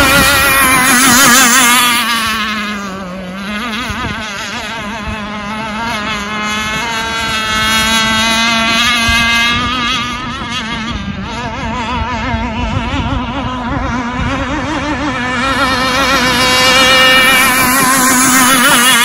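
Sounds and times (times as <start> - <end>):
rc boat motor buzzing whine: 0.0 - 19.0.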